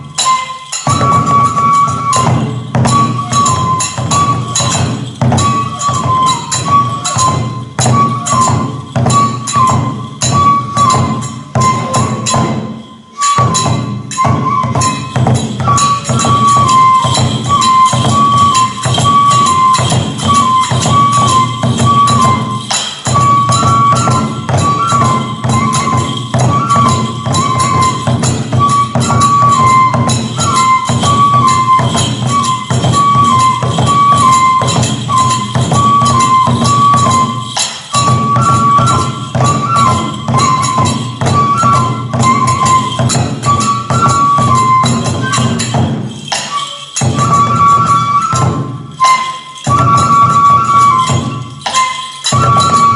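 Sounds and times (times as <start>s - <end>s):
bamboo flute melody: 0.0s - 52.9s
hand cymbals clashing: 0.0s - 52.9s
taiko drum beats: 0.0s - 52.9s.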